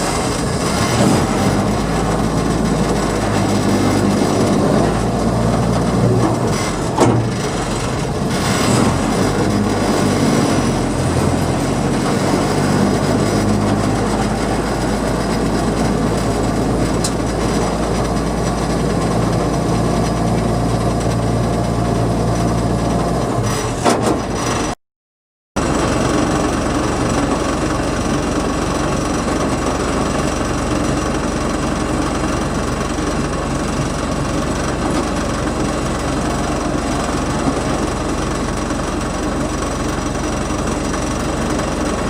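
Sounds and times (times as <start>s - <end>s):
rail car engine running: 0.0s - 24.7s, 25.6s - 42.0s
wheels on rail track: 0.0s - 24.8s, 25.6s - 42.0s.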